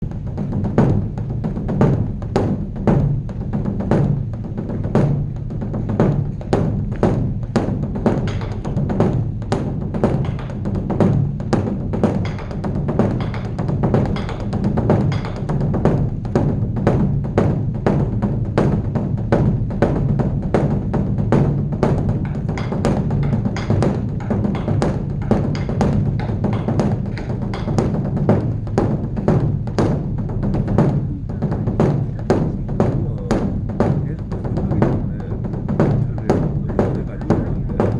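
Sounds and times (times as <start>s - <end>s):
large drum beaten with sticks: 0.0s - 37.9s.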